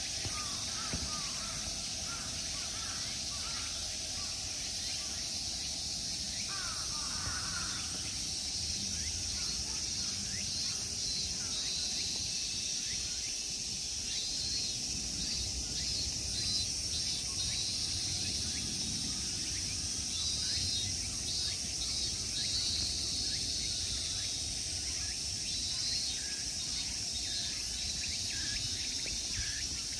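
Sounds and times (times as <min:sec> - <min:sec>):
insect pulsing trill: 0:00.0 - 0:29.9
insects buzzing high-pitched: 0:00.0 - 0:29.9.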